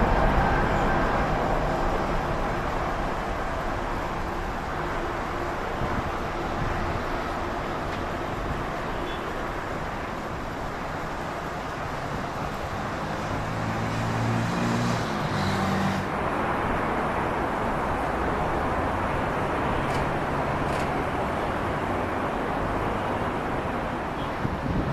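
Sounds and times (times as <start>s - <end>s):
traffic rumble: 0.0s - 24.9s.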